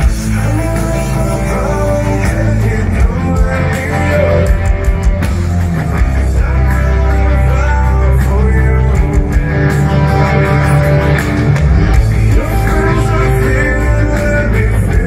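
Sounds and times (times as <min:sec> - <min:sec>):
heavy bass: 0:00.0 - 0:15.0
live hard rock band playing: 0:00.0 - 0:15.0.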